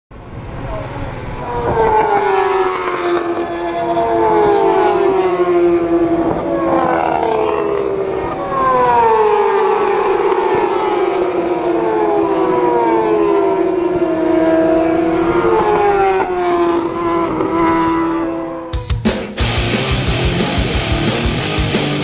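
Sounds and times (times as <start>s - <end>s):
racing motorcycles passing at high revs: 0.7s - 18.8s.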